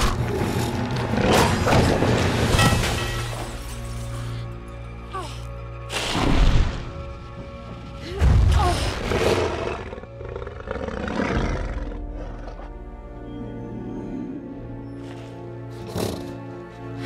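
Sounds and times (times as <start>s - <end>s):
film score music: 0.0s - 17.0s.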